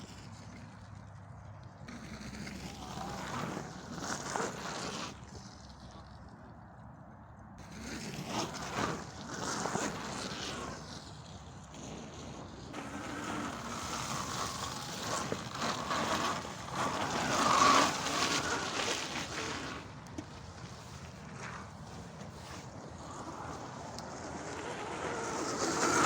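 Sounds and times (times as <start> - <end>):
electric dirt bike riding off-road: 0.0 - 7.0, 7.6 - 26.0.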